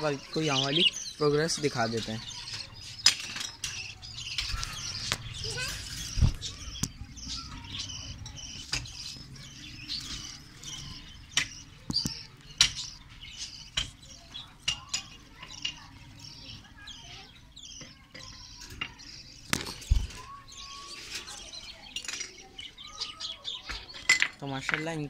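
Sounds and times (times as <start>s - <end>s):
budgerigars chirping and chattering: 0.0s - 25.0s.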